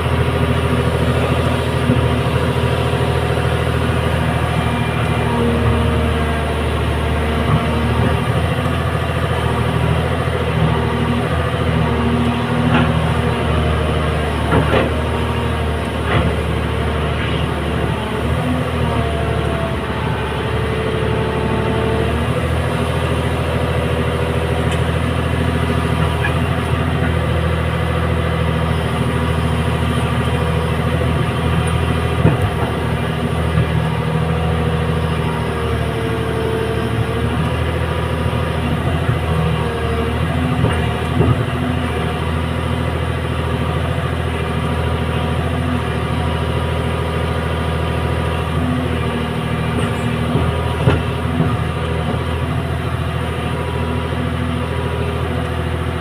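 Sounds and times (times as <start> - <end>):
excavator diesel engine running: 0.0 - 56.0
hydraulic whine: 0.0 - 56.0.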